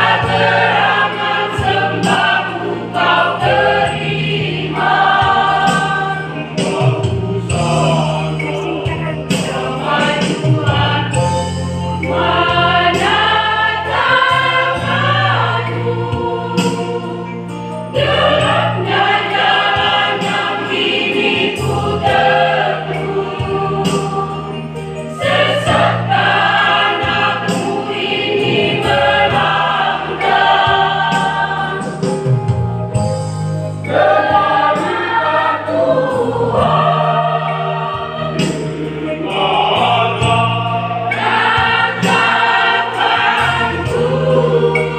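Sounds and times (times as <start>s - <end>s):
church choir singing a hymn: 0.0s - 44.9s.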